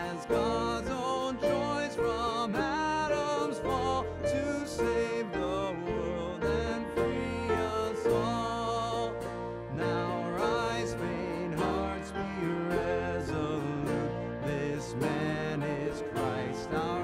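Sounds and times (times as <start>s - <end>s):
hymn singing: 0.0s - 17.0s
instrumental accompaniment: 0.0s - 17.0s.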